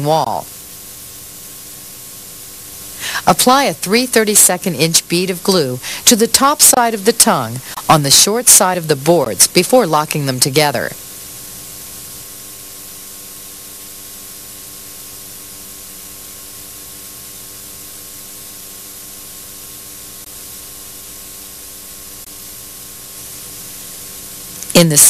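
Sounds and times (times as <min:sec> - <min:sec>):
faint hum: 0:00.0 - 0:25.0
tape hiss: 0:00.0 - 0:25.0.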